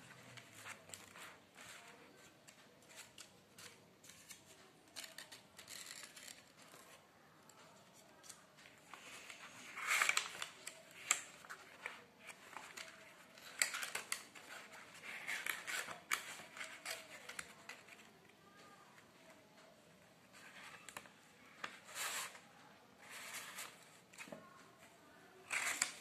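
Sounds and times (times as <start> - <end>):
paper rustling with crisp clicks: 0.1 - 26.0.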